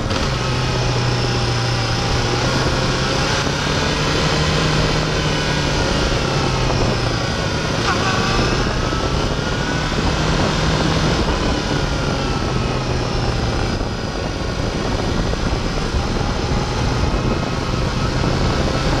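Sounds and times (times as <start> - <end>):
heavy wind noise: 0.0 - 19.0
motorcycle engine running: 0.0 - 19.0.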